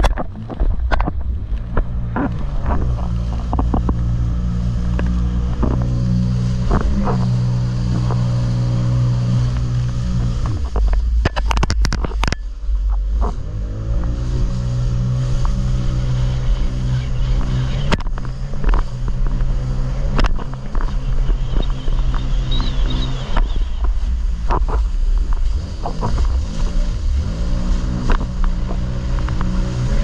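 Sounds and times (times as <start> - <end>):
jet ski engine running: 0.0 - 30.0
wind rumble on microphone: 0.0 - 30.0.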